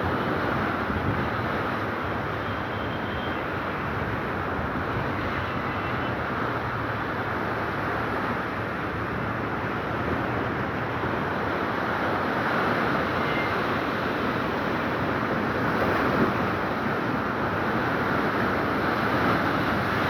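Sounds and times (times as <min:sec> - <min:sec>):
sea surf washing on shore: 0:03.6 - 0:20.0.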